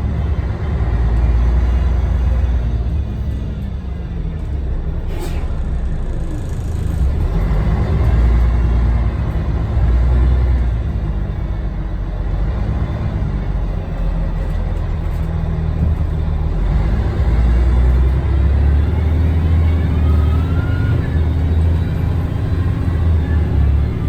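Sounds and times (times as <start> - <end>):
diesel bus engine droning: 0.0 - 24.0.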